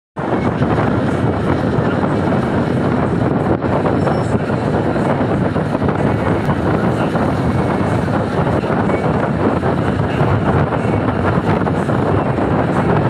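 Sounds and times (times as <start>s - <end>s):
vehicle road noise: 0.2s - 13.0s
wind rushing past window: 0.2s - 13.0s.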